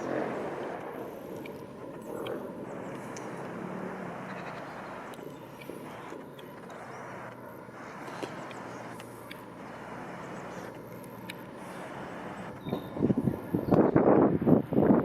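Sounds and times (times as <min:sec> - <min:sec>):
distant traffic rumble: 0:00.0 - 0:15.0
faint bird chirps: 0:01.2 - 0:14.0.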